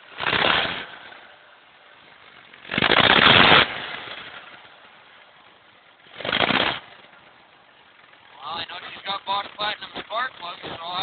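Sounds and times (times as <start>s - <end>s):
car engine firing roughly: 0.0s - 11.0s.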